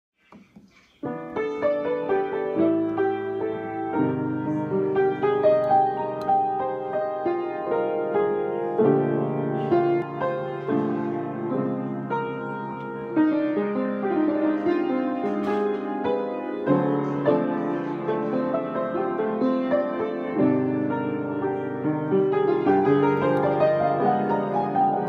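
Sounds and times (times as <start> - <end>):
piano music: 1.0 - 25.0.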